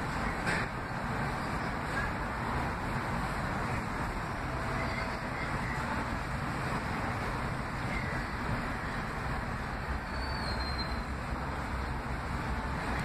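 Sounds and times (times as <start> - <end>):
city traffic noise: 0.0 - 13.0
subway train rumbling: 0.0 - 13.0.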